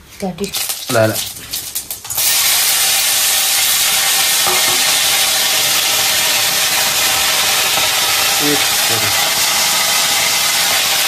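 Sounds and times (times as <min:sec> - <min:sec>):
food sizzling in hot oil: 0:00.4 - 0:11.0.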